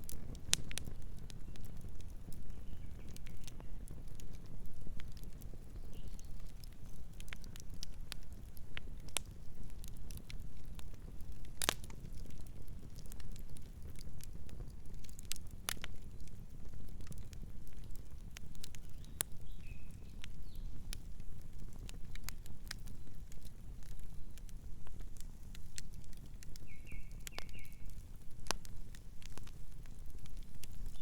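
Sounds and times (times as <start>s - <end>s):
wood crackling and popping: 0.0s - 31.0s.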